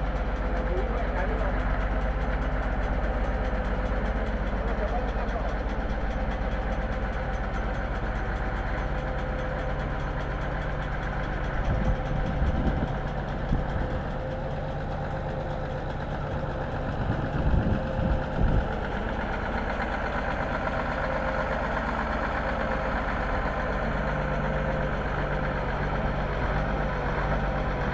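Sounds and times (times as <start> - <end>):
excavator mechanical drone: 0.0 - 27.9.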